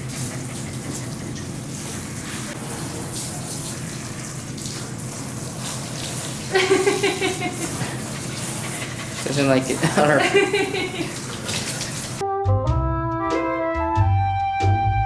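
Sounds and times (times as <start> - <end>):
shower water spraying on dog: 0.0 - 12.2.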